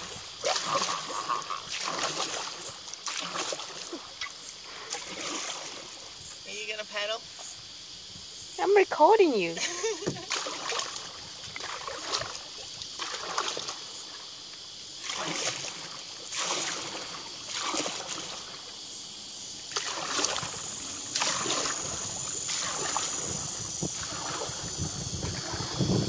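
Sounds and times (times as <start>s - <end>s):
paddle strokes splashing water: 0.0s - 7.5s, 9.0s - 26.0s.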